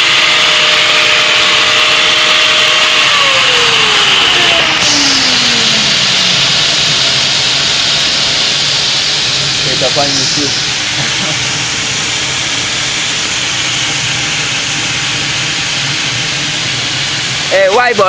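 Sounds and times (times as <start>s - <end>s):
machinery rushing noise: 0.0s - 18.0s
motor winding down: 0.0s - 18.0s.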